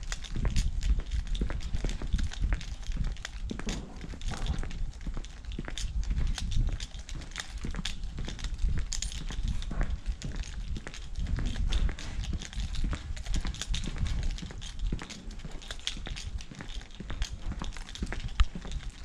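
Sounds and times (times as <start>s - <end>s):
footsteps on paved street: 0.0s - 19.0s
handheld camera rumble: 0.0s - 19.0s.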